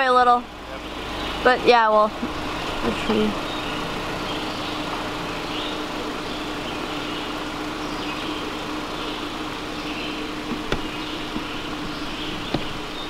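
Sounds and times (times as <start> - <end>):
suv engine running: 0.0 - 13.0.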